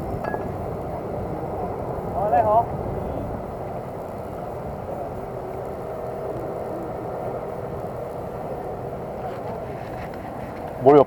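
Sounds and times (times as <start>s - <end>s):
faint hum: 0.0s - 11.0s
low outdoor rumble: 0.0s - 11.0s.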